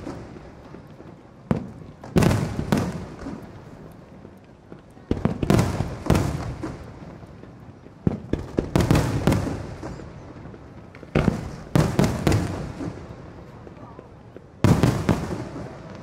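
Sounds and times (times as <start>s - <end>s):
fireworks bursting with bangs: 0.0s - 16.0s.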